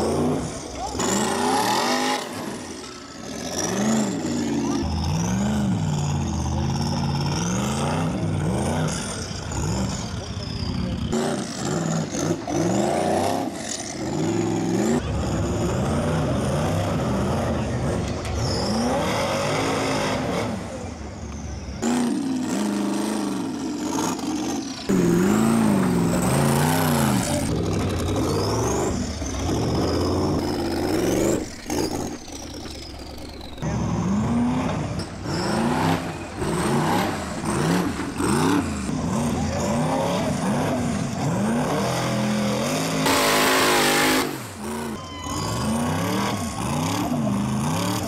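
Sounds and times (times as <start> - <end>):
buggy engine revving hard: 0.0 - 48.0.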